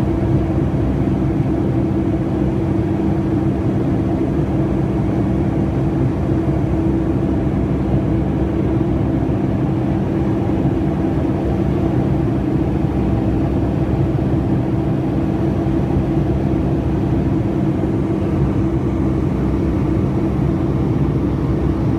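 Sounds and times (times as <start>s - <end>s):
airplane cabin drone: 0.0s - 21.9s.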